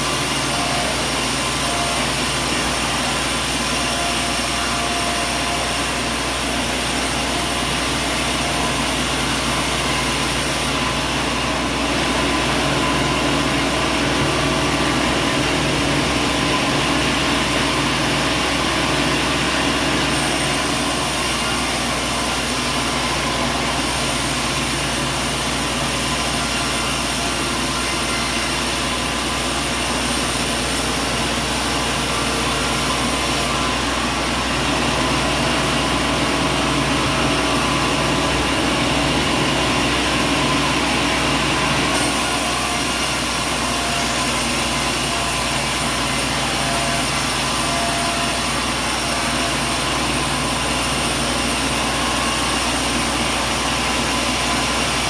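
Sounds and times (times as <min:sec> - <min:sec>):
machinery running with hum: 0:00.0 - 0:55.0.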